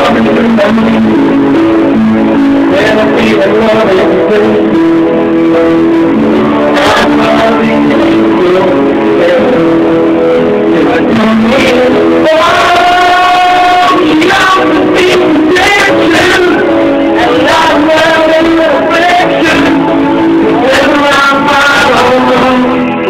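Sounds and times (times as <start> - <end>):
amplified backing music: 0.0 - 23.0
man singing into microphone: 0.0 - 23.0.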